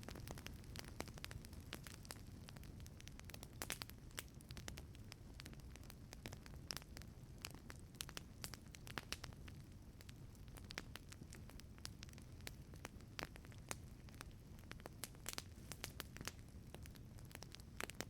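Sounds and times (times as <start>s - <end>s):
low steady fire rumble: 0.0s - 18.0s
wood fire crackling and popping: 0.0s - 18.0s.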